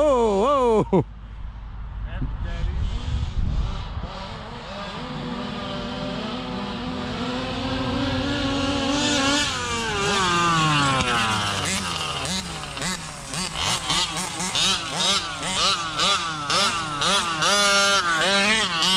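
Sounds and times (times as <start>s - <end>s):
rc truck engines revving: 2.7s - 18.9s.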